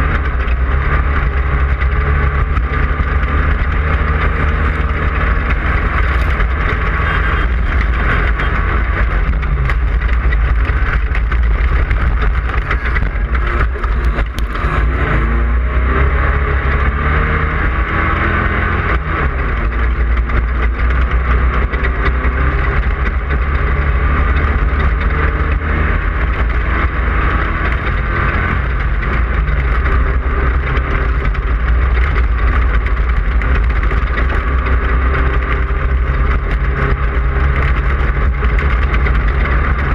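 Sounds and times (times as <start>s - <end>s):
race car engine running hard: 0.0s - 39.9s
wind and terrain noise: 0.0s - 39.9s.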